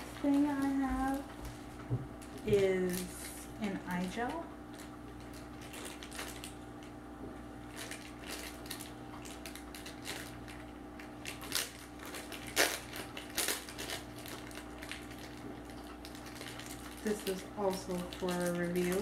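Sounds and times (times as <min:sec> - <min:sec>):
plastic packaging crinkling: 0:00.0 - 0:07.0, 0:07.6 - 0:19.0.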